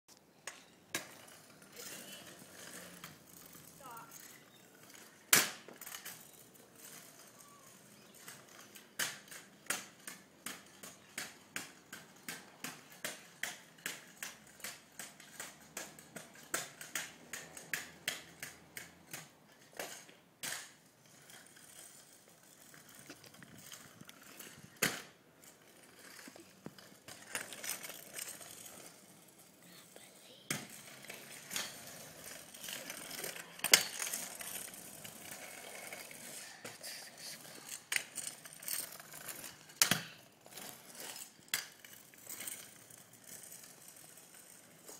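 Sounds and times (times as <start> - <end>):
scooter rolling on rough concrete: 0.2 - 44.9.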